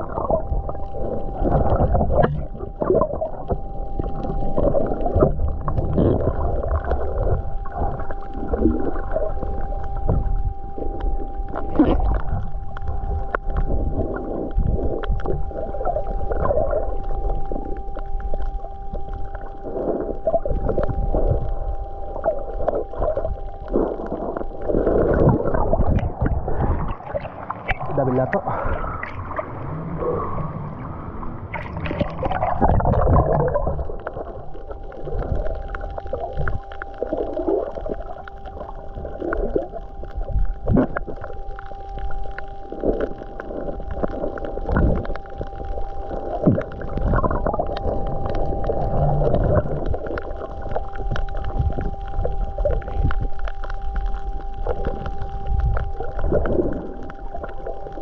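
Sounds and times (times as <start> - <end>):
steady hum: 0.0 - 58.0
underwater gurgling and bubbling: 0.0 - 58.0.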